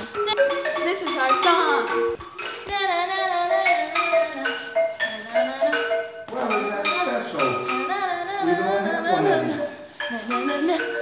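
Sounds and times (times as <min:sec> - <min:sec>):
girl singing: 0:00.0 - 0:06.1, 0:07.6 - 0:11.0
xylophone notes: 0:00.0 - 0:11.0.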